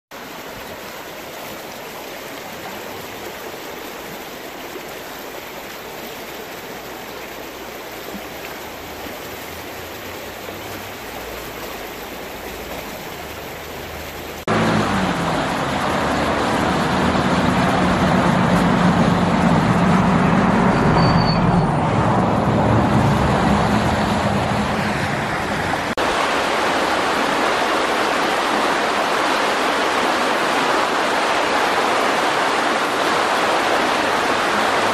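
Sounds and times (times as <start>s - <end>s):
river rushing over stones: 0.1s - 34.9s.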